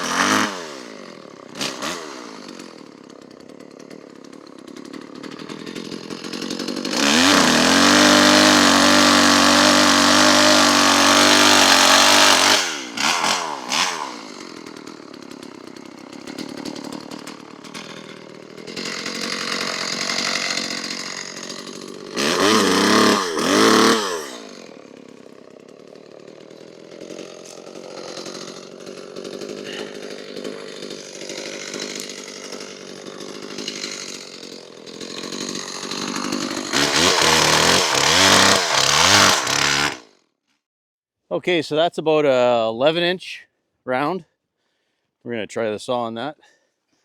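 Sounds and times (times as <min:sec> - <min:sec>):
chainsaw revving: 0:00.0 - 0:40.2.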